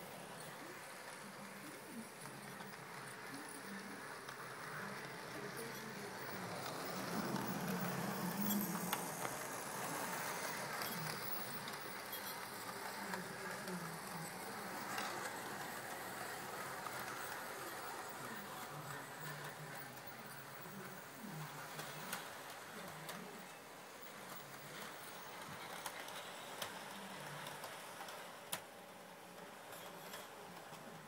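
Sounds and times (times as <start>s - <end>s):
model train motor hum: 0.0s - 31.0s.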